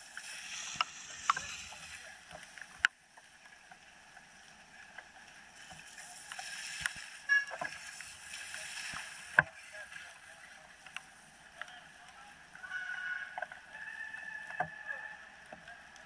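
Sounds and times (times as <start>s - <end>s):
bike tyres rolling on dirt trail: 0.0s - 16.0s.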